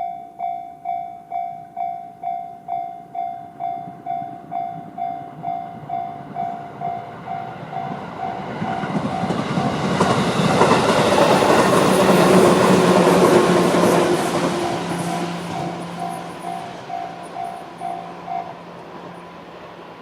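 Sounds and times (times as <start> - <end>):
level-crossing warning bell: 0.0 - 10.4, 11.0 - 19.7
electric train passing: 1.7 - 20.0
train hum: 2.1 - 20.0.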